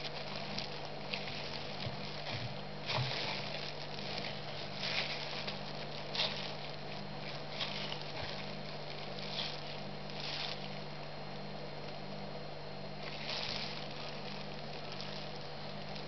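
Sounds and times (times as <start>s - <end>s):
gloved hands rustling and scraping: 0.0s - 11.0s, 13.0s - 16.0s
low electrical hum: 0.0s - 16.0s.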